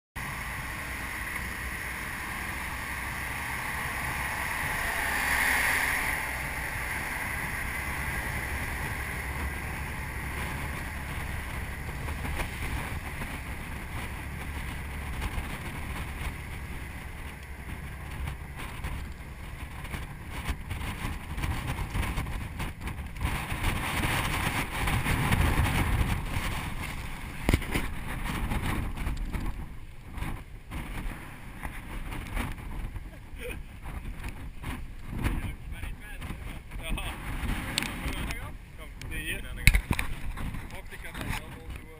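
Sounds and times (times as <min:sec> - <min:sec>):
boat engine droning: 0:00.2 - 0:41.9
rough sea wash: 0:00.2 - 0:41.9
wind buffeting the microphone: 0:00.2 - 0:41.9.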